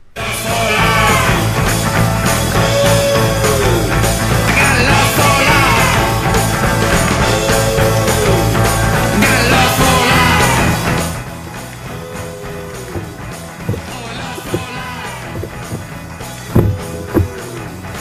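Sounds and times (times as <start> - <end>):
rock music: 0.2 - 18.0.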